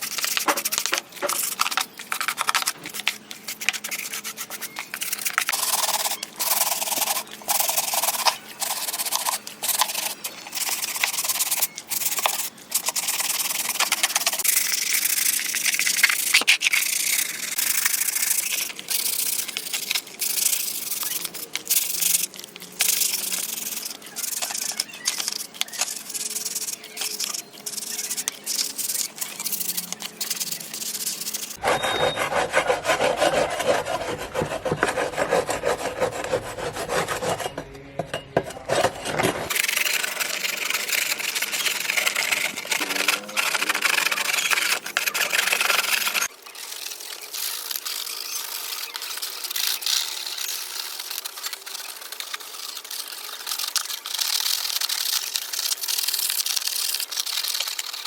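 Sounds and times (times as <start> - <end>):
sandpaper rubbing: 0.0 - 37.7, 38.4 - 58.0.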